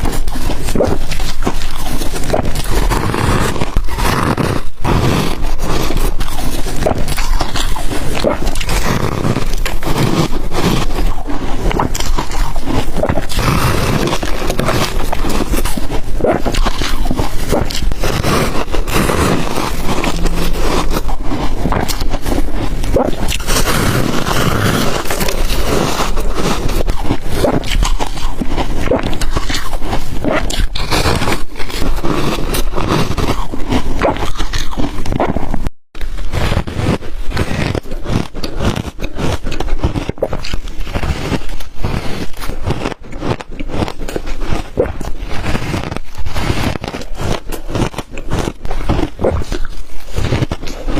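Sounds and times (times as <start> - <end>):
ice crunching while chewed: 0.0 - 50.9.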